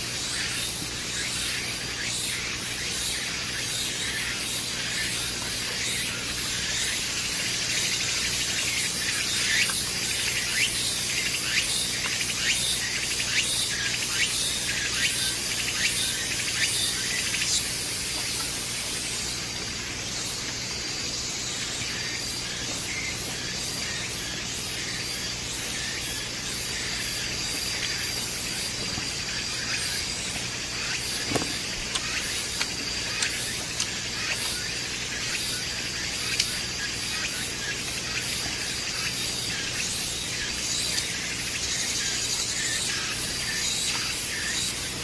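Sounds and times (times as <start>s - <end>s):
insects hissing: 0.0s - 45.0s.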